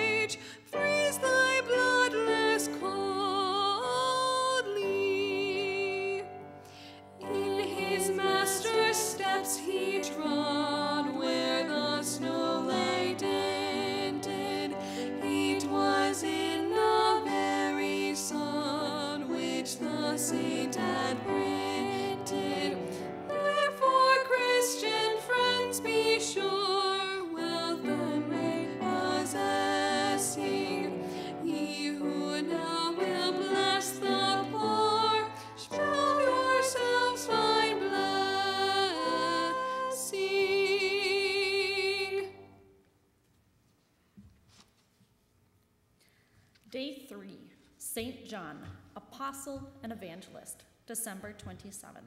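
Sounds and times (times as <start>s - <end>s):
women singing a carol: 0.0s - 6.4s, 7.2s - 42.6s.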